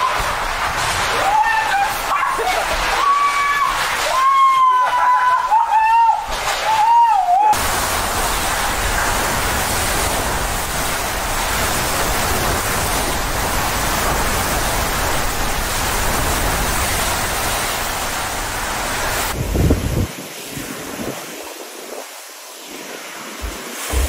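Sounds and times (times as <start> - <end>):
strong wind and driving rain: 0.0 - 24.0.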